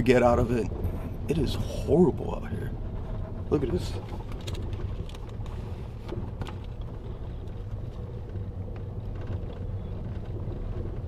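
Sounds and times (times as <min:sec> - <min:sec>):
car rumbling on dirt road: 0:00.0 - 0:11.0.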